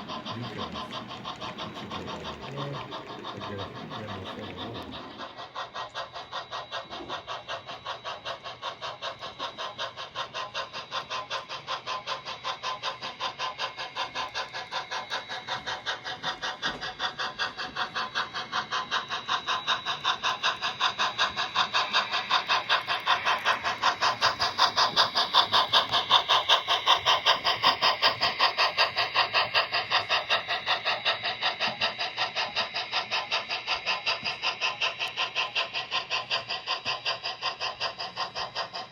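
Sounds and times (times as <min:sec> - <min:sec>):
model steam locomotive chuffing: 0:00.0 - 0:38.9.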